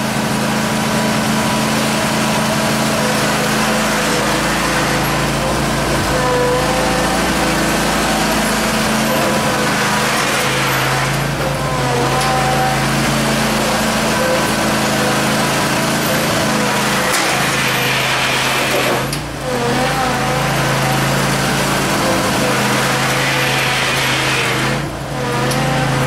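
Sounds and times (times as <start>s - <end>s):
small tractor engine running: 0.0s - 26.0s.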